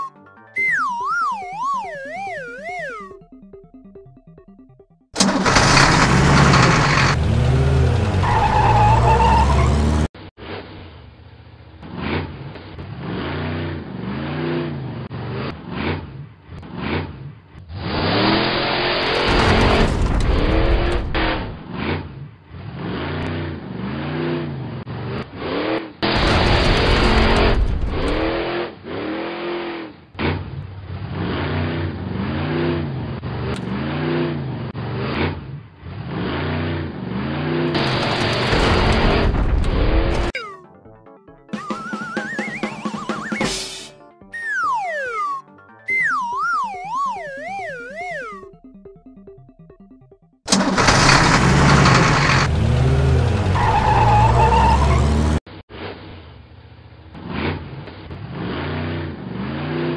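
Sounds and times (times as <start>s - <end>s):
cartoon truck engine revving: 0.0s - 11.0s, 11.8s - 40.6s, 41.5s - 56.3s, 57.2s - 59.9s.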